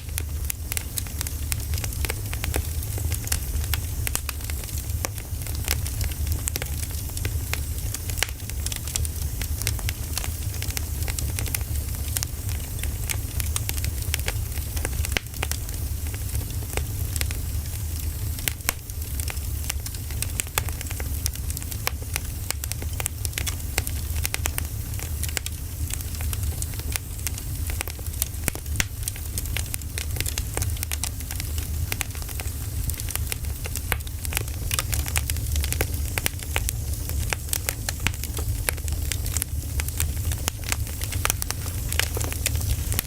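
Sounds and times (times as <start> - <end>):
fire low rumble: 0.0 - 43.0
wood fire crackling: 0.0 - 43.0.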